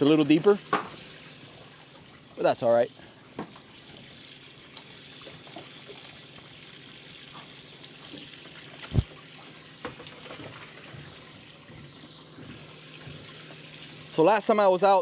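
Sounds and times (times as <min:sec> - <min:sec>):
faint low pump hum: 0:00.0 - 0:15.0
water spraying and trickling: 0:00.0 - 0:15.0.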